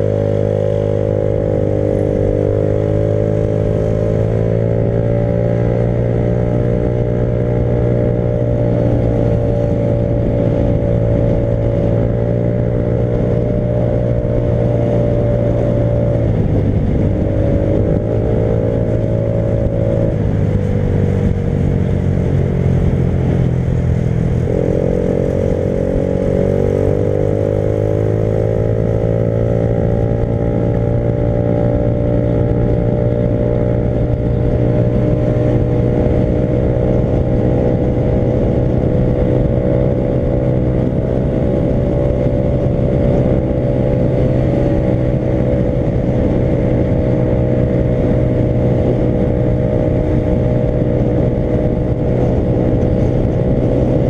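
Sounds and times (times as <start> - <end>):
motorcycle engine running: 0.0 - 54.0
steady rush of noise: 0.0 - 54.0.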